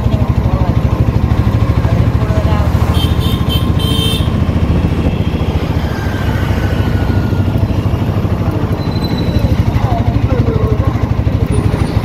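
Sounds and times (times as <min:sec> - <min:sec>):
auto-rickshaw engine rumbling: 0:00.0 - 0:12.0
road and traffic noise: 0:00.0 - 0:12.0.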